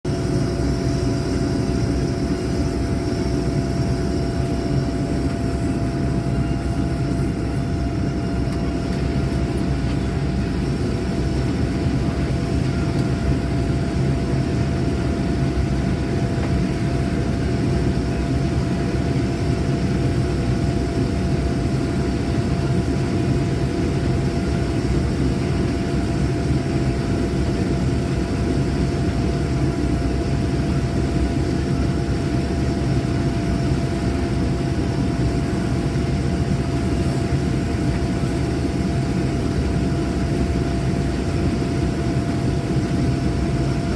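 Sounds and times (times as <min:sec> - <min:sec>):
combine harvester engine drone: 0:00.1 - 0:43.9
thin steady whine: 0:00.1 - 0:43.9.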